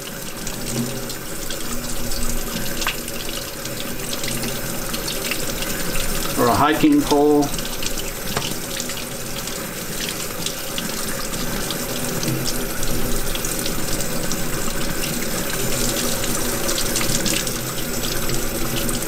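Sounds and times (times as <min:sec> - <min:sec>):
tap water splashing into sink: 0:02.8 - 0:19.0.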